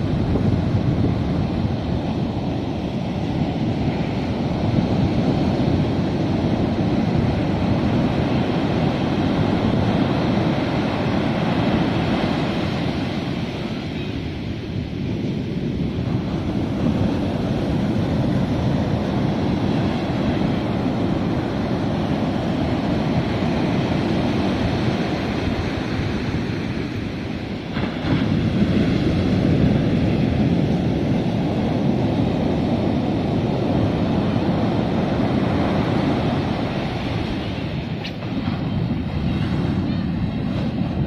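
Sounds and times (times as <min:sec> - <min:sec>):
ocean surf breaking: 0:00.0 - 0:41.0.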